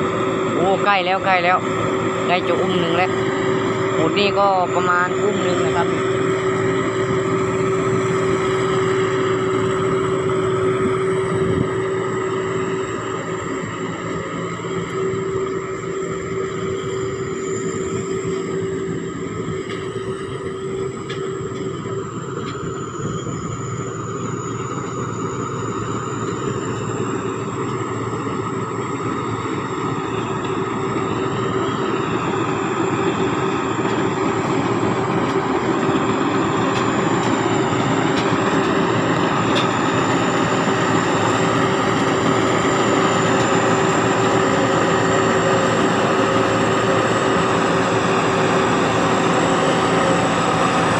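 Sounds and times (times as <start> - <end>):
diesel engine running under load: 0.0 - 50.9.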